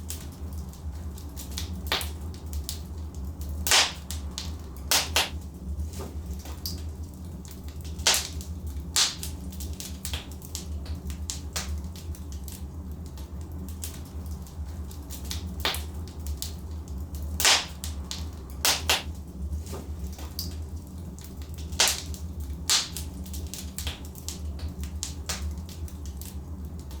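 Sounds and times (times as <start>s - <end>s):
logs crackling and snapping: 0.0s - 27.0s
low rumble of fire: 0.0s - 27.0s.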